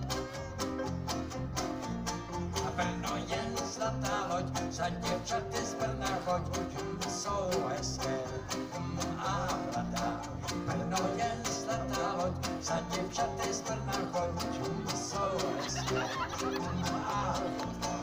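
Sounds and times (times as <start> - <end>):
acoustic country band playing: 0.0 - 18.0.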